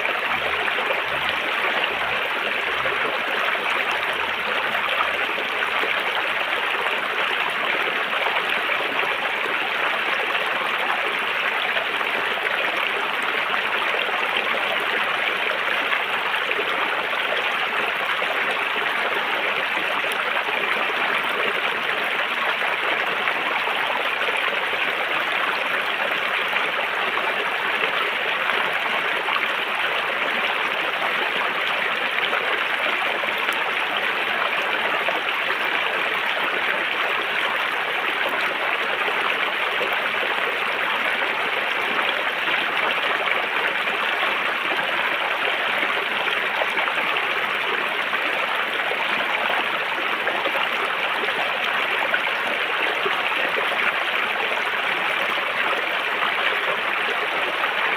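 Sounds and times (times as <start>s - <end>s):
river water flowing over rocks: 0.0s - 57.9s.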